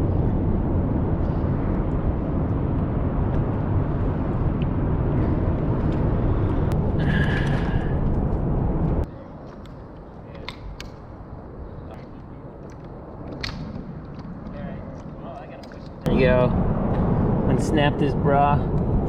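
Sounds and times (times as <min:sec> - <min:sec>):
wind buffeting microphone: 0:00.0 - 0:09.5, 0:10.6 - 0:19.0.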